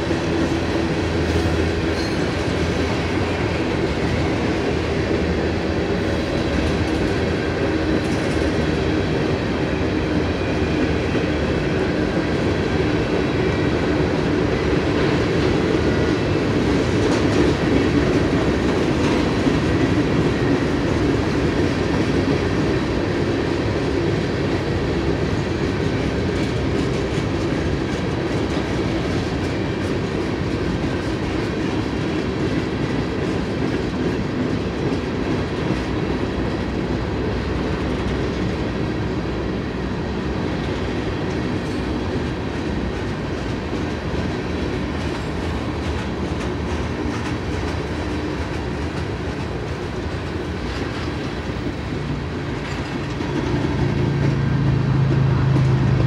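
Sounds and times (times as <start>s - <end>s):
freight cars rumbling and rattling: 0.0s - 56.0s.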